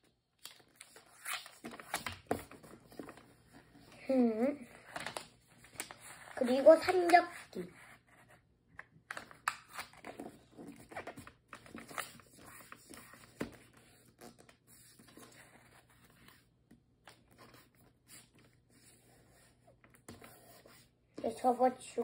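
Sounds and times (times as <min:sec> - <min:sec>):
paper rustling and crinkling: 0:00.4 - 0:08.1, 0:09.0 - 0:19.1.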